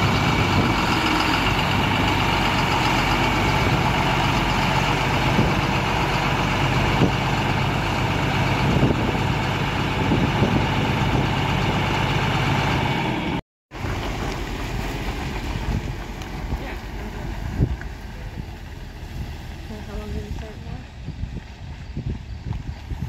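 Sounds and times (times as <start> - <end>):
diesel engine idling: 0.0 - 23.0
steady rumble: 0.0 - 23.0.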